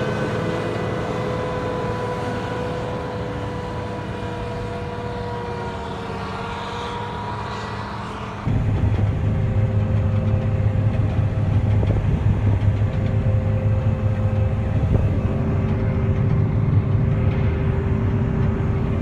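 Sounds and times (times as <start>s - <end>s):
combine engine drone: 0.0s - 19.0s
steady whining tones: 0.0s - 19.0s.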